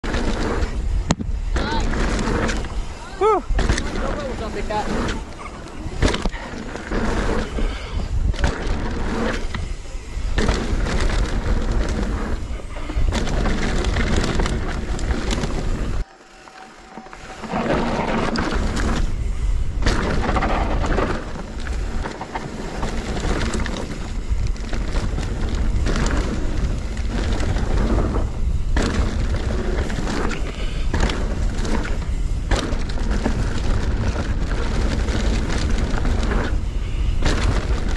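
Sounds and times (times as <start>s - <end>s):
wind buffeting microphone: 0.0s - 16.0s, 17.8s - 37.9s
bike rattling over bumps: 0.0s - 16.1s, 16.7s - 37.9s
tyres rolling over dirt: 0.0s - 37.9s.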